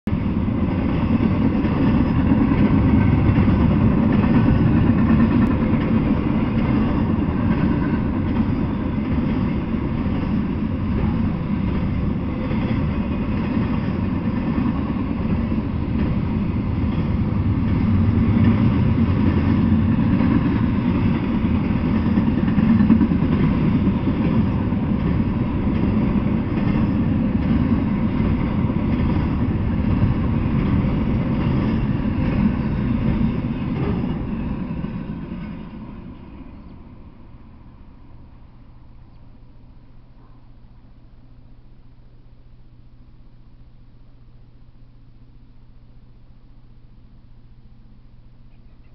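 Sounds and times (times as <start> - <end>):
freight train wheels on rails: 0.1 - 41.9.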